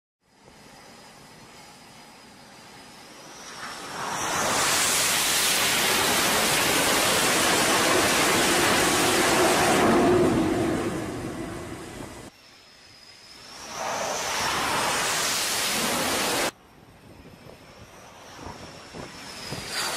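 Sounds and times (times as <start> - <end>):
jet hiss: 0.3 - 16.6, 17.4 - 19.9
jet engine roar: 0.3 - 19.9.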